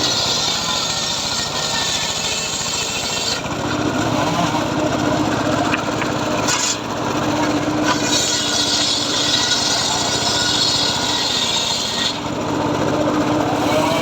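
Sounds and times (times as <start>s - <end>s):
circular saw engine drone: 0.0s - 14.0s
saw blade cutting wood: 0.0s - 14.0s.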